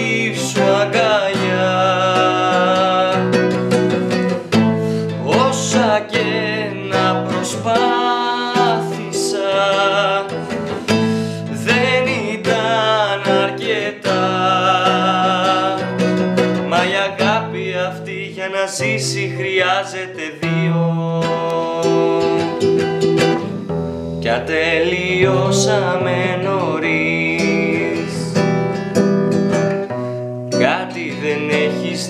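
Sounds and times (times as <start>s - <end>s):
man singing: 0.0s - 23.4s, 24.2s - 28.9s, 30.5s - 32.0s
classical guitar playing: 0.0s - 32.0s.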